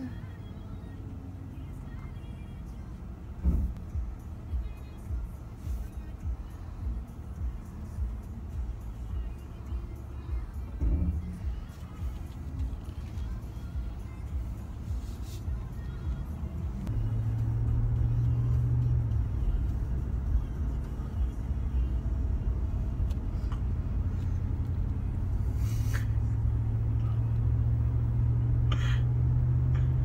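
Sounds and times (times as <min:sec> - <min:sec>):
pickup engine and road drone: 0:00.0 - 0:30.0.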